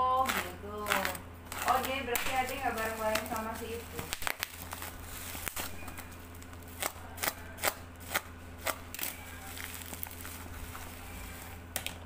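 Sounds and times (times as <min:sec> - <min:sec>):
low steady hum: 0:00.0 - 0:12.0
plastic bag crinkling and ripping: 0:00.2 - 0:12.0.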